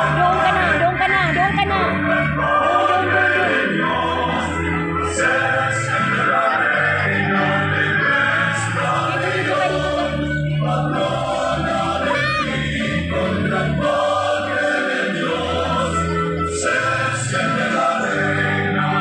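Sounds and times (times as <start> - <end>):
choir singing held notes: 0.0 - 19.0.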